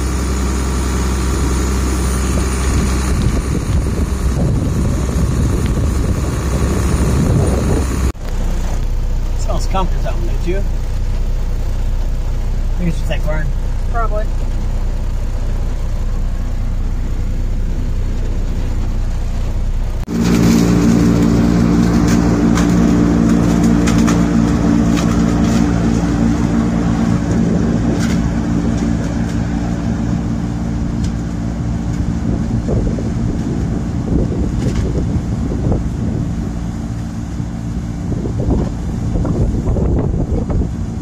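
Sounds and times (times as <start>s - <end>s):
combine engine and threshing drone: 0.0s - 41.0s
truck cab rumble: 0.0s - 41.0s.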